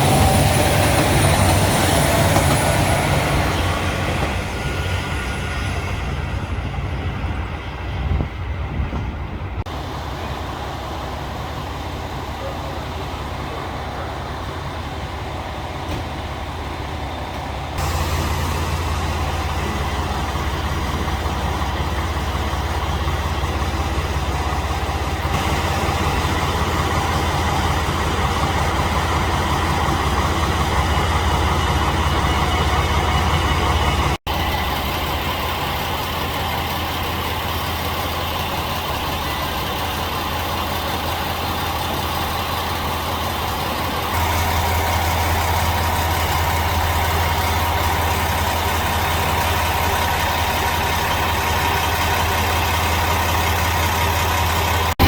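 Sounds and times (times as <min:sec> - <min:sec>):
railcar diesel engine drone: 0:00.0 - 0:55.0
train rolling noise: 0:00.0 - 0:55.0.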